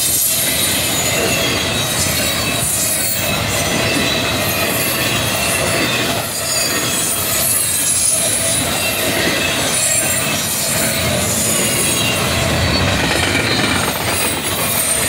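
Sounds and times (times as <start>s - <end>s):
high-pitched wheel squeals: 0.0s - 15.0s
train wheels rumbling on rail: 0.0s - 15.0s.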